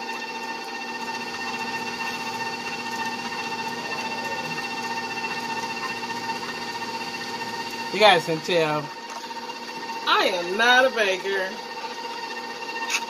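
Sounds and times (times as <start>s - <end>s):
electric mixer motor whine: 0.0s - 13.0s.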